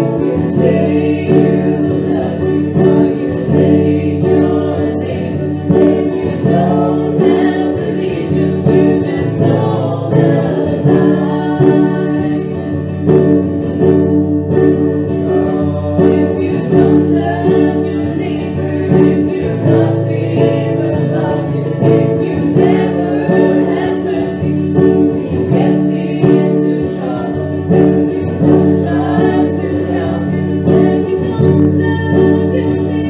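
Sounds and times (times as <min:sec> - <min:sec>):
group singing worship song: 0:00.0 - 0:33.0
instrumental accompaniment: 0:00.0 - 0:33.0.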